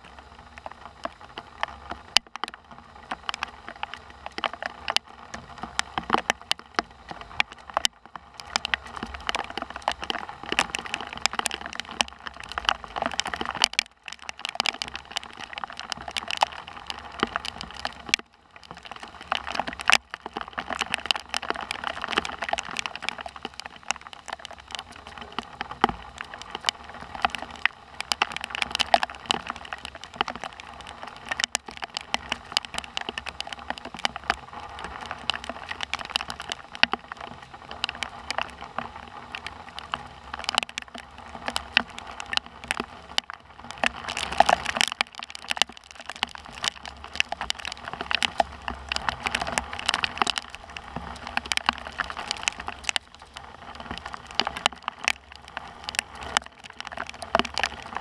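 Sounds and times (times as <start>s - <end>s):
heavy rain pattering: 0.0s - 58.0s.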